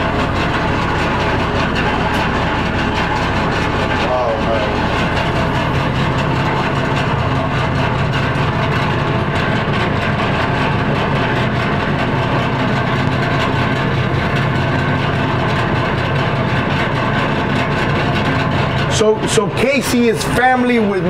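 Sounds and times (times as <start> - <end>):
heavy diesel engine droning: 0.0 - 21.0.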